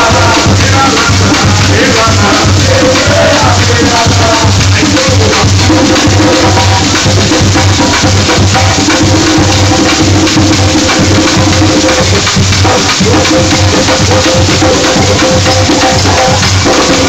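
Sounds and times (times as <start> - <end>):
low hand drum beats: 0.0 - 17.0
sharp hand drum strikes: 0.0 - 17.0.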